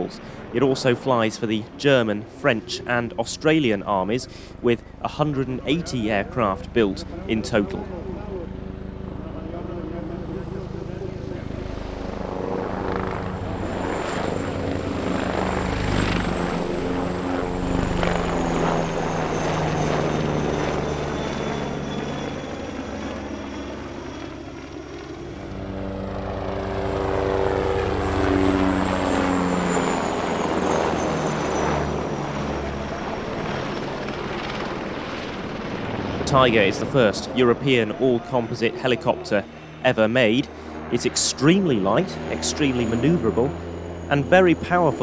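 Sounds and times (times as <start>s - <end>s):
helicopter rotor chop: 0.0s - 45.0s
high turbine whine: 0.0s - 45.0s.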